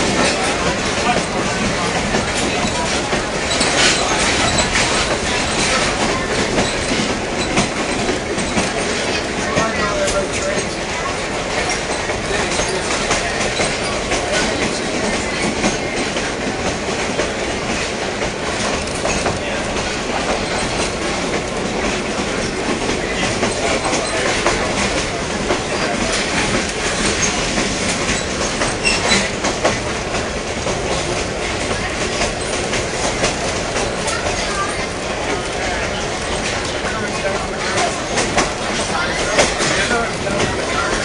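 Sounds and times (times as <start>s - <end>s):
train running noise: 0.0s - 41.0s
wheels clicking over rail joints: 0.0s - 41.0s.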